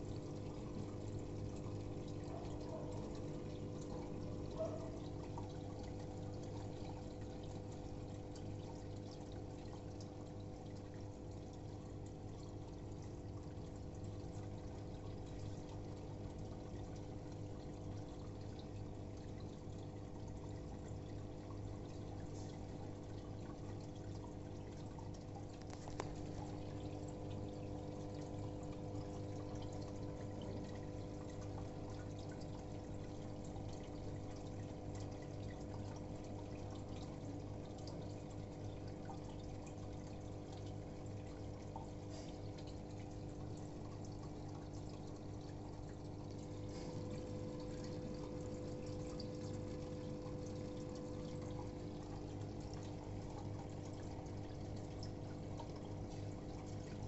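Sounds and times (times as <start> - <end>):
aquarium filter pump humming: 0.0 - 57.0
water trickling and splashing: 0.0 - 57.0.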